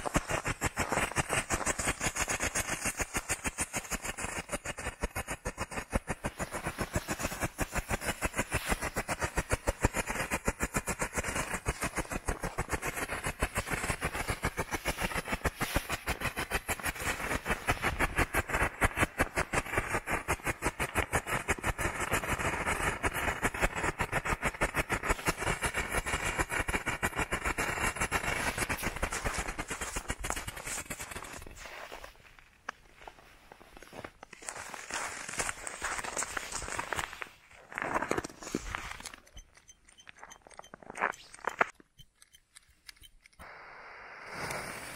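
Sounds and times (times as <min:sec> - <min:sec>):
firework crackling pops: 0:00.0 - 0:32.1, 0:34.2 - 0:37.5, 0:43.4 - 0:44.9.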